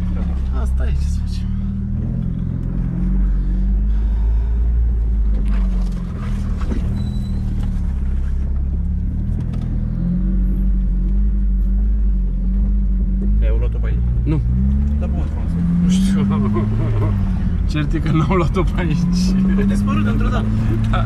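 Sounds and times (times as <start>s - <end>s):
car engine running inside cabin: 0.0s - 21.0s.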